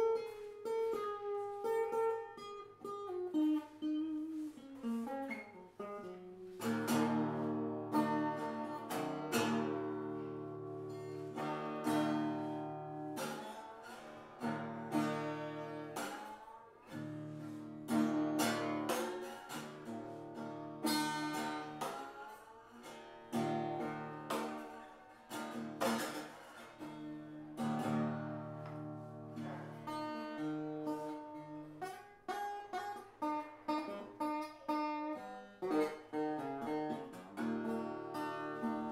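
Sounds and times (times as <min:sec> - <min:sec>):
acoustic guitar picked and strummed: 0:00.0 - 0:38.9.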